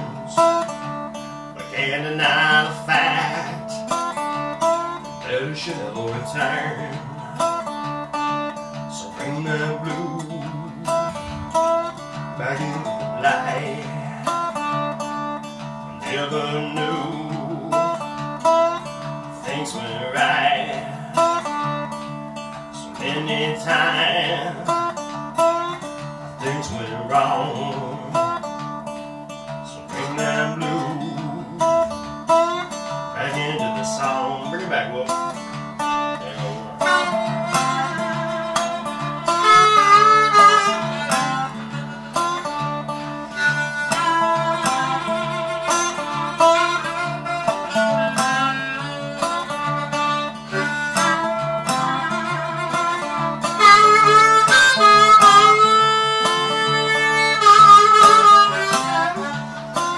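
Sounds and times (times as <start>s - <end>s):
blues harmonica: 0.0s - 59.9s
slide resonator guitar blues: 0.0s - 59.9s.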